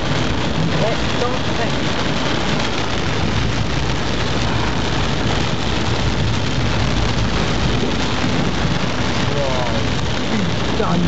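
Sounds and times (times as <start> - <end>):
car driving rumble: 0.0 - 11.0
heavy rain on car roof: 0.0 - 11.0.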